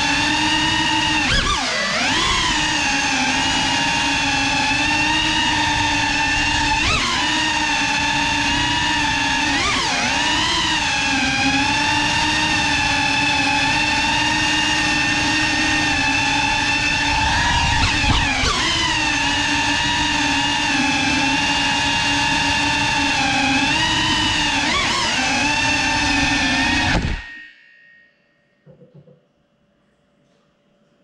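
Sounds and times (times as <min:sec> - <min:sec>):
drone propellers whining: 0:00.0 - 0:27.3.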